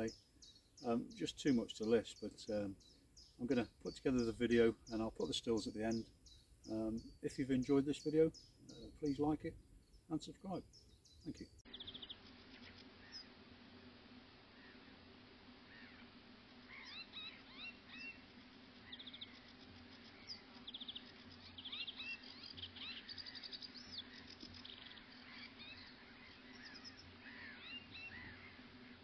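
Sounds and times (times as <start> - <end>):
small birds chirping and trilling: 0.0 - 29.0.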